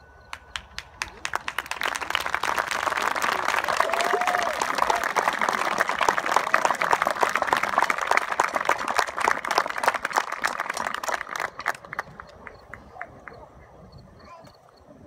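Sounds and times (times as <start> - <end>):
audience applauding: 0.3 - 13.4.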